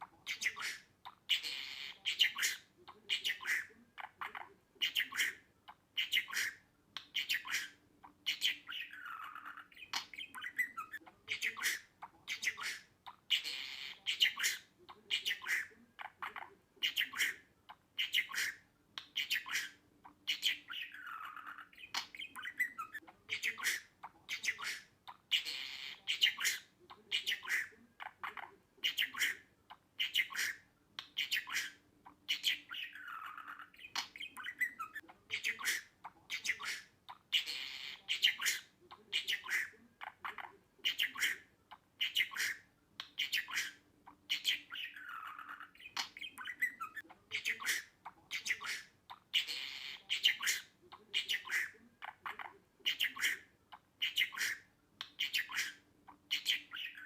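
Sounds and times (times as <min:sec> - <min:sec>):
budgerigar chirping and squawking: 0:00.0 - 0:57.0.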